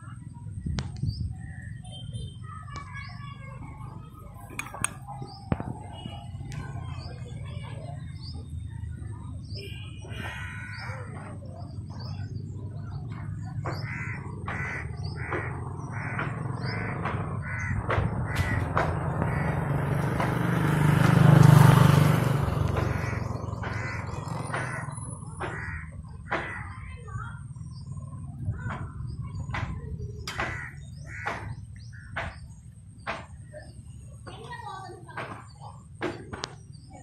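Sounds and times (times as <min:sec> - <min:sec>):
repeated short bird calls: 0:00.0 - 0:20.3, 0:21.7 - 0:37.0.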